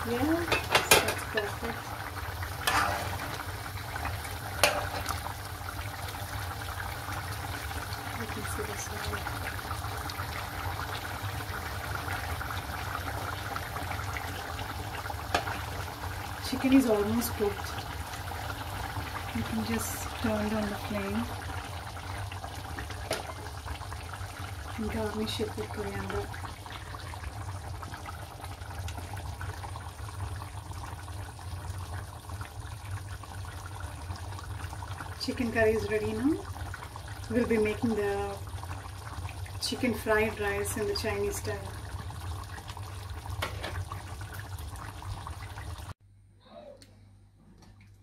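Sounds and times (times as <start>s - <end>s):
thick sauce bubbling and popping: 0.0s - 16.5s, 17.1s - 46.0s.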